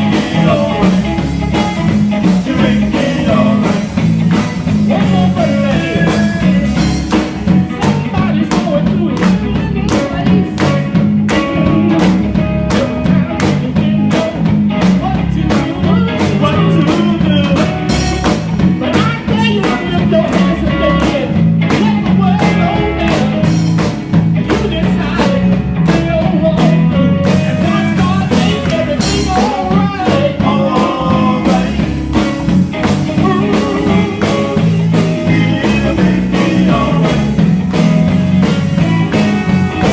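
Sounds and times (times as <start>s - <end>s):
gospel band playing: 0.0s - 39.9s.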